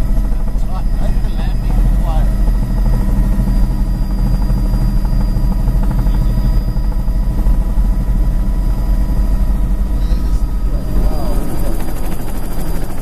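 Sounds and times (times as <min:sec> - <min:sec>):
helicopter rotor and engine: 0:00.0 - 0:13.0
thin steady whine: 0:00.0 - 0:13.0.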